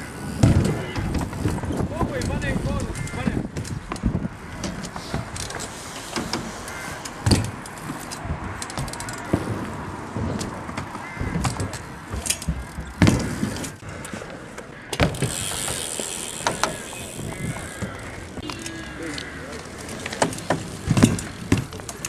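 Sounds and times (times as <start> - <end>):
bike landing impacts: 0.0 - 18.8, 19.8 - 22.0
bike tyres rolling: 0.0 - 22.0.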